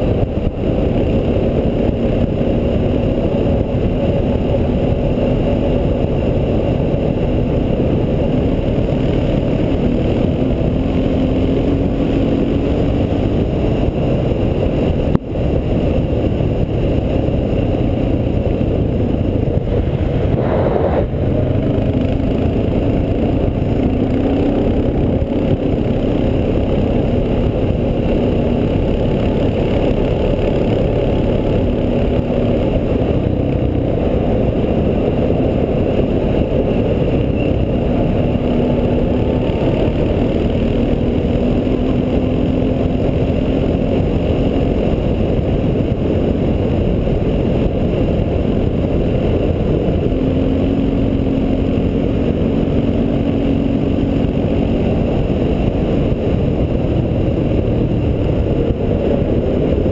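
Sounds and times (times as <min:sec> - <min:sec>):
atv engine running: 0:00.0 - 0:59.9
wind and road noise: 0:00.0 - 0:59.9.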